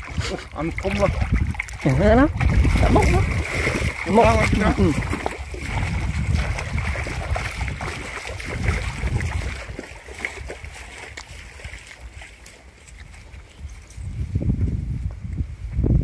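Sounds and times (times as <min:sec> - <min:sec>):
feet splashing through water: 0:00.0 - 0:14.0
wind rumble on microphone: 0:00.0 - 0:16.0.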